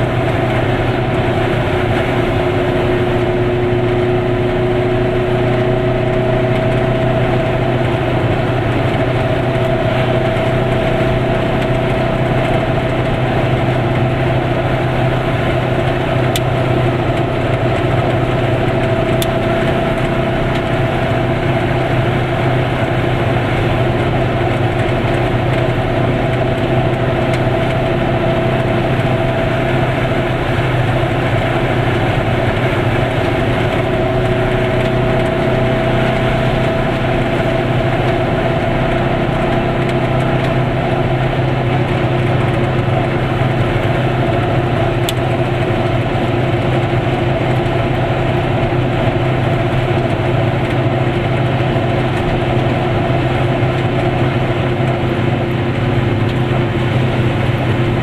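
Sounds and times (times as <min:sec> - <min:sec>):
small car engine droning: 0:00.0 - 0:58.0
tyre and road noise: 0:00.0 - 0:58.0.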